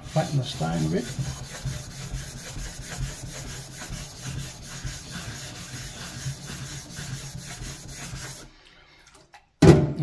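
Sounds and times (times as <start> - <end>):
plate scraping on whetstone: 0.0 - 8.5.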